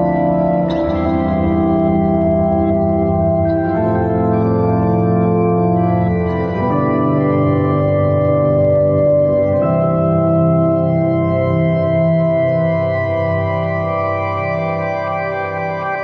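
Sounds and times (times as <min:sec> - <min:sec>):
slow keyboard chords: 0:00.0 - 0:16.0.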